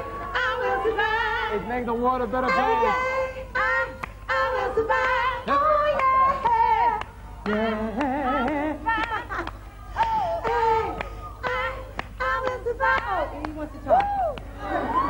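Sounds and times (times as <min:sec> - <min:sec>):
woman singing into microphone: 0:00.0 - 0:01.6, 0:02.5 - 0:14.4.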